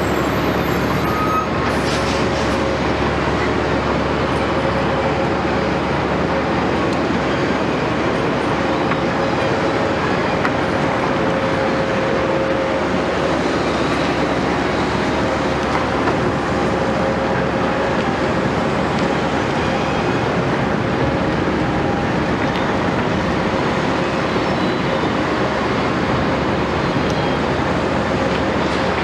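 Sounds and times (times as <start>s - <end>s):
continuous whine: 0.0s - 29.0s
excavator diesel engine: 0.0s - 29.0s.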